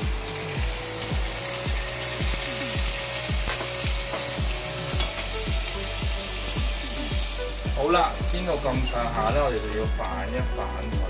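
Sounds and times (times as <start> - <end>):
background music with thudding beat: 0.0 - 11.0
beef patty sizzling in oil: 0.0 - 11.0.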